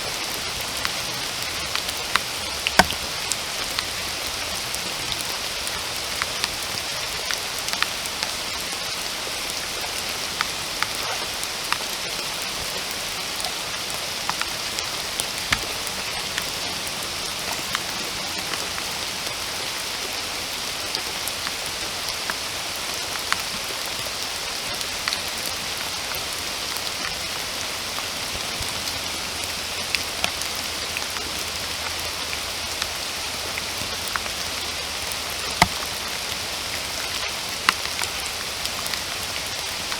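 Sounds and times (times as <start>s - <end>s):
raindrops clicking on leaves: 0.0s - 39.9s.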